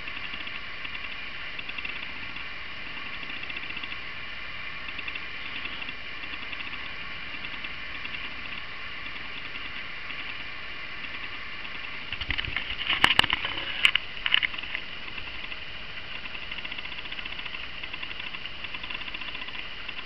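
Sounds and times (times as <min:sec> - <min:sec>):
high-pitched electrical whine: 0:00.0 - 0:20.0.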